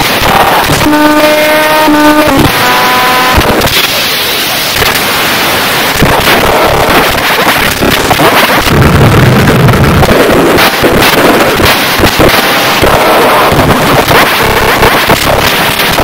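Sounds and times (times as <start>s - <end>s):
harsh distorted noise music: 0.0s - 16.0s.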